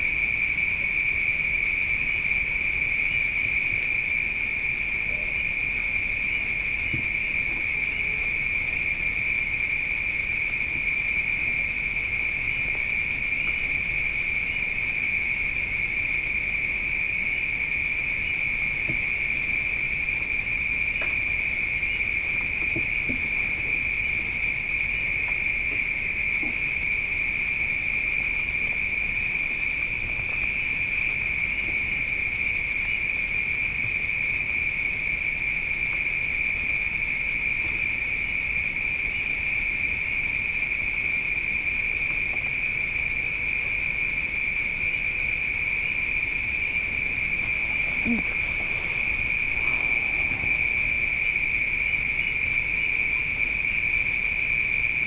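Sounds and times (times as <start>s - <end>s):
night insects trilling: 0.0s - 55.0s.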